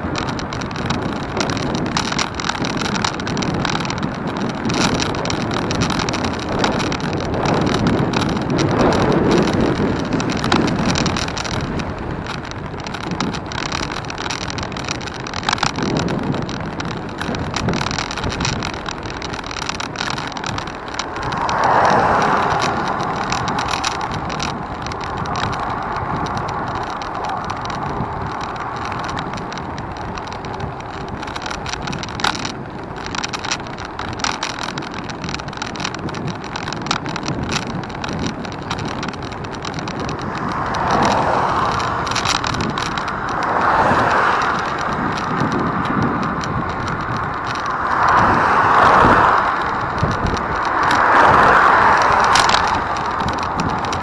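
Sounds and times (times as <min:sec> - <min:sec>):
road noise: 0:00.0 - 0:54.0
wind on microphone: 0:00.0 - 0:54.0.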